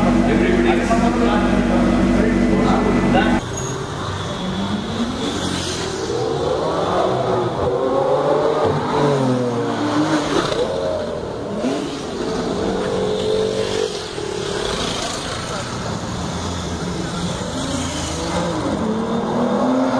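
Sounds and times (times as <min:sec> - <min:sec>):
car engine revving: 0:00.0 - 0:19.9
street traffic: 0:00.0 - 0:19.9.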